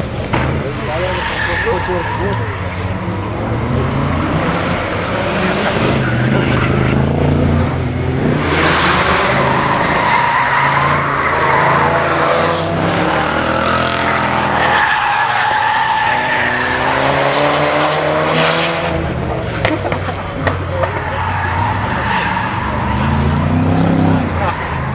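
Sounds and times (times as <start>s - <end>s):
car engine revving: 0.0s - 24.9s
tyres squealing: 0.5s - 17.2s, 19.2s - 24.9s.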